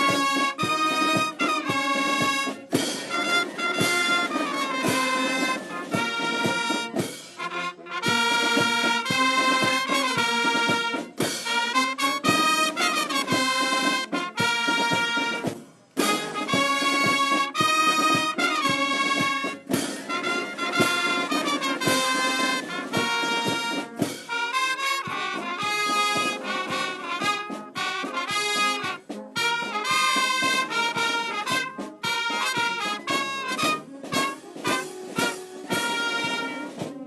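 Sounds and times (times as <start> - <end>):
brass music: 0.0 - 37.0.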